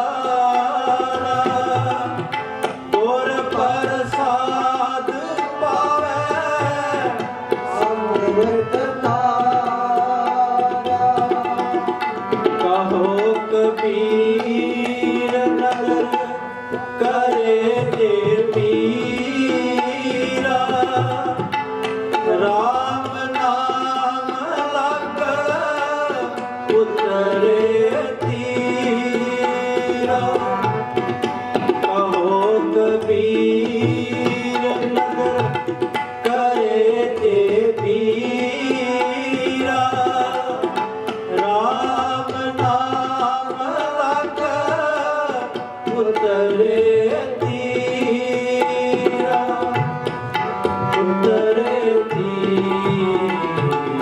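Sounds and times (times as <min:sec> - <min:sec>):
harmonium chords: 0:00.0 - 0:54.0
tabla rhythm: 0:00.0 - 0:54.0
voices singing devotional melody: 0:00.0 - 0:54.0.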